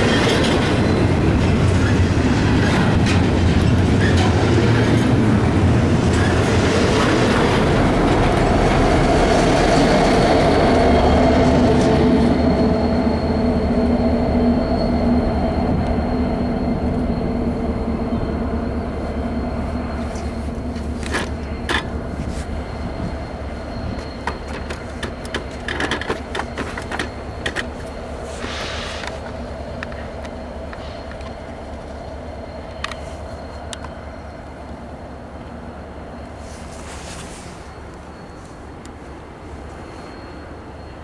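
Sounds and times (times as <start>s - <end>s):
freight train wheels rumbling: 0.0s - 41.0s
wheels and rails whining: 0.0s - 41.0s.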